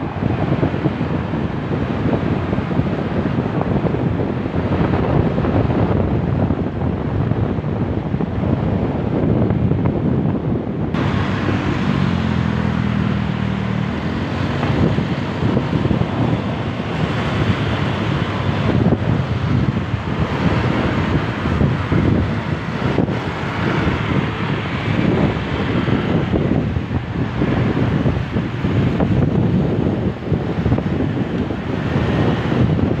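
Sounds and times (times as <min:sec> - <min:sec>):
motorcycle engine hum: 0:00.0 - 0:33.0
road traffic: 0:00.0 - 0:33.0
wind buffeting microphone: 0:00.0 - 0:33.0.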